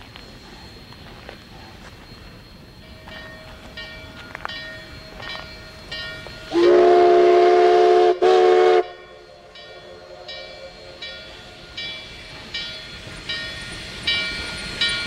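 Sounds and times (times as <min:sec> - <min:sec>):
steam locomotive chime whistle: 0:00.0 - 0:15.0.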